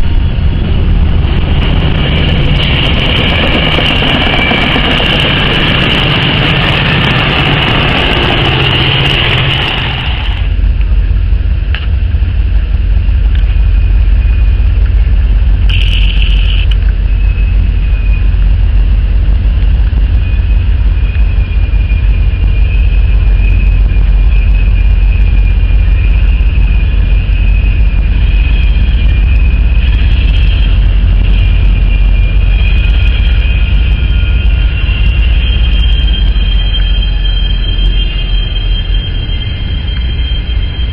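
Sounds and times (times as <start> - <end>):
train wheel squeal: 0.0 - 10.8, 12.9 - 40.9
freight train rumbling: 0.0 - 40.9.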